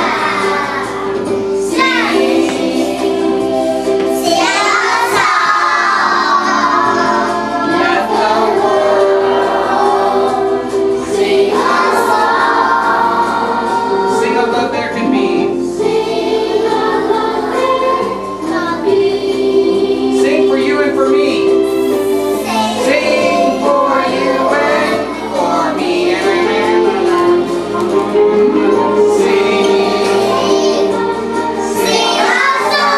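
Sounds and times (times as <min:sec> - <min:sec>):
children singing: 0:00.0 - 0:20.8, 0:21.6 - 0:32.9
music: 0:00.0 - 0:32.9.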